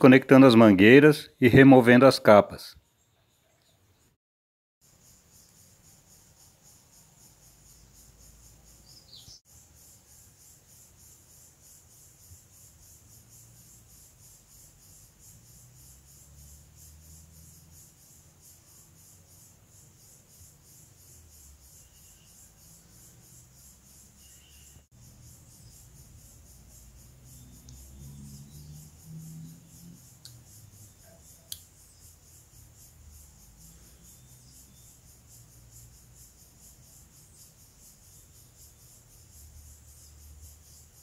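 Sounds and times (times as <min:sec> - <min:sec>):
insect chirring: 0:04.8 - 0:41.0.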